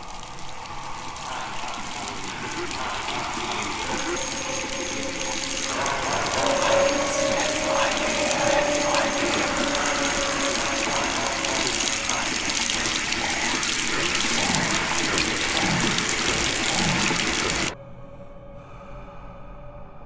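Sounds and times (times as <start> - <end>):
faucet water running into sink: 0.0 - 17.8.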